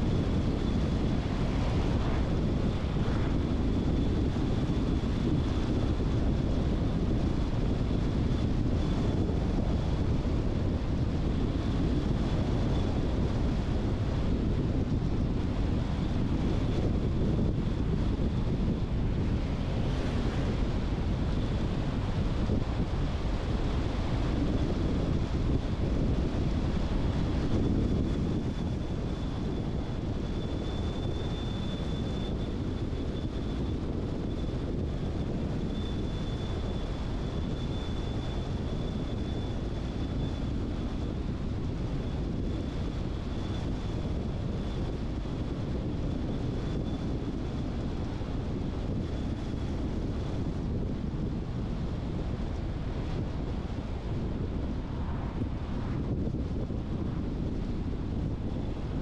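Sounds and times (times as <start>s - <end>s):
tyre and wind noise: 0.0s - 59.0s.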